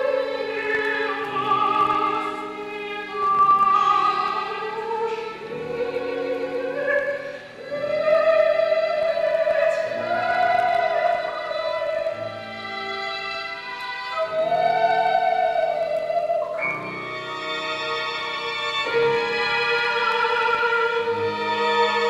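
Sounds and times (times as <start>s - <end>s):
chamber orchestra: 0.0s - 22.0s
woman singing with vibrato: 0.0s - 22.0s.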